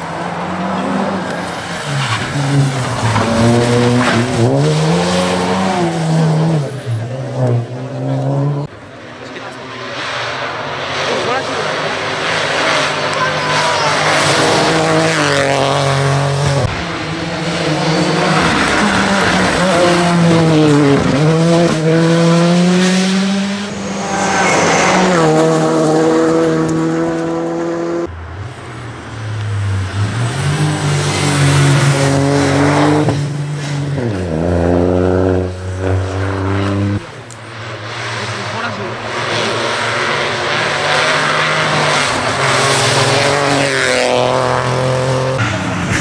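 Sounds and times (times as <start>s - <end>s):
rally car engines revving: 0.0s - 46.0s.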